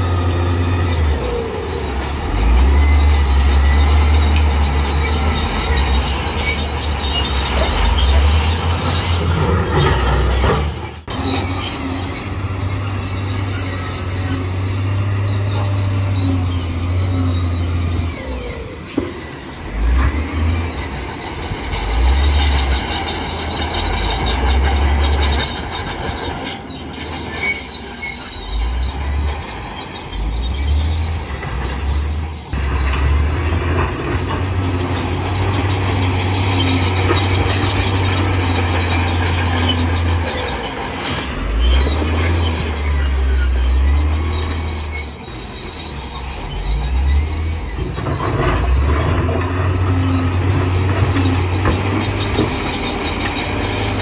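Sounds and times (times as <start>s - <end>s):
high metallic squealing: 0.0s - 18.8s, 19.5s - 54.0s
diesel machinery engine rumble: 0.0s - 54.0s.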